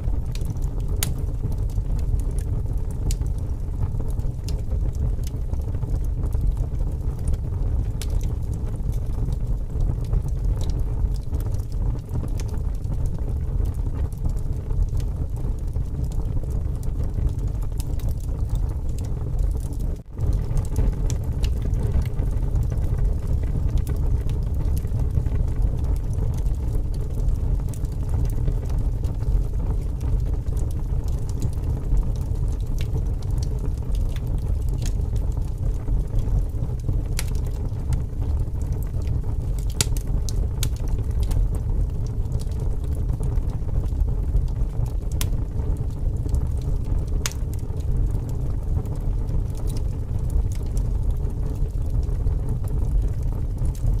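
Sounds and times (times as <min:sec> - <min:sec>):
fire crackling and popping: 0:00.0 - 0:54.0
wind rumble: 0:00.0 - 0:54.0.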